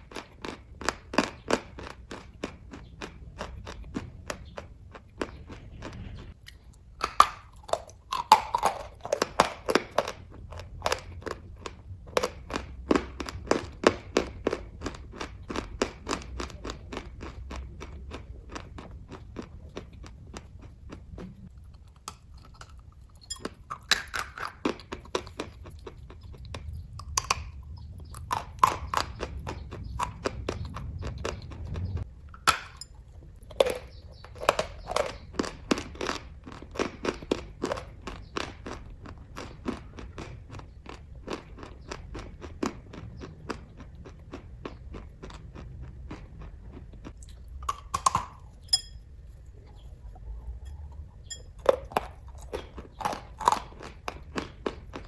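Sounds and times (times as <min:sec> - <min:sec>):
person chewing with mouth clicks: 0:00.0 - 0:55.0.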